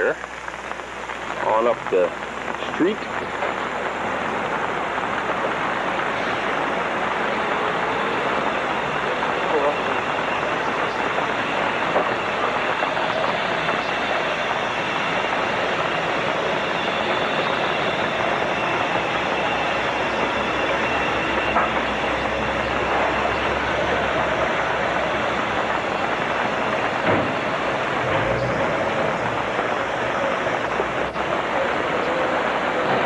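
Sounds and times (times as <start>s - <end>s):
rain on a wet street: 0.0s - 33.0s
vehicle rumble: 0.0s - 33.0s.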